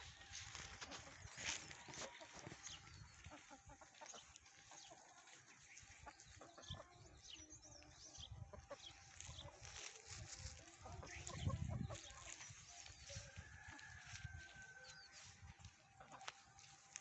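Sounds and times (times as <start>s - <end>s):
chickens clucking: 0.0s - 17.0s
chicks peeping: 0.0s - 17.0s.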